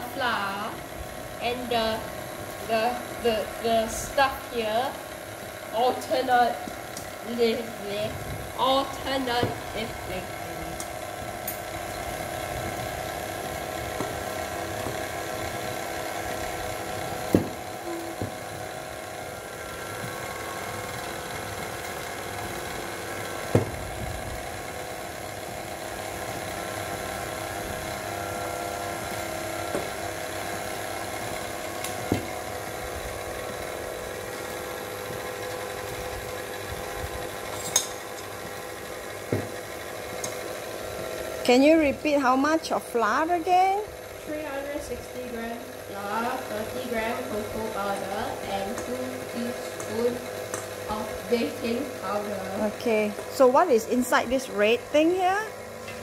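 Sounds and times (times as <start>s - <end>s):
stand mixer running: 0.0s - 56.0s.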